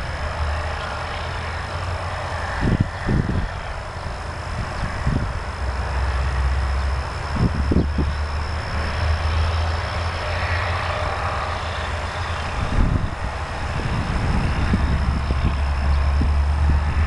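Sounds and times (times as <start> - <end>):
low fluttering: 0.0 - 17.0
road traffic rumble: 0.0 - 17.0.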